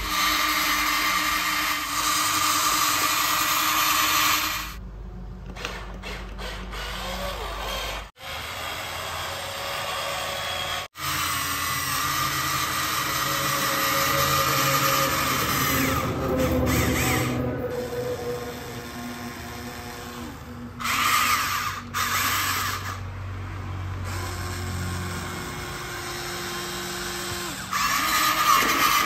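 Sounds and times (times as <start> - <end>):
toy electric motors whirring: 0.0 - 4.8, 5.4 - 29.0.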